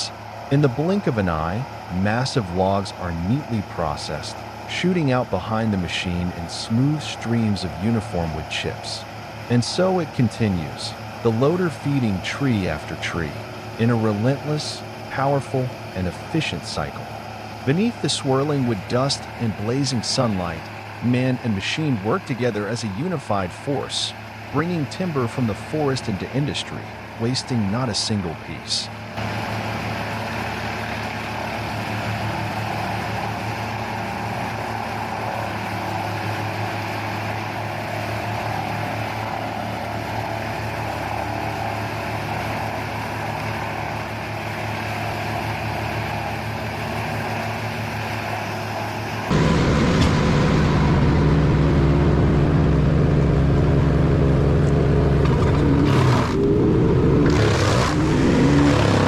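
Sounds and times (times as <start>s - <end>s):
wood chipper engine running: 0.0s - 59.0s.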